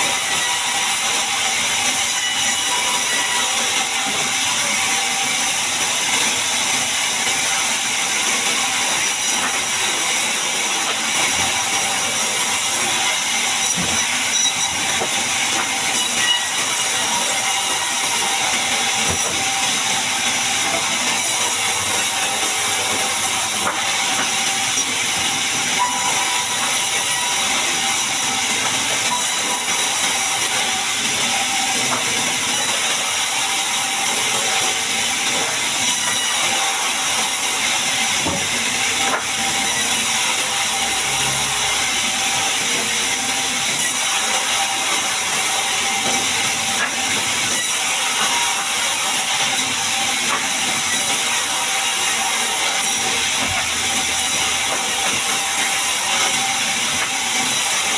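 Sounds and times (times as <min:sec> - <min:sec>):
bandsaw blade whining through wood: 0:00.0 - 0:57.9.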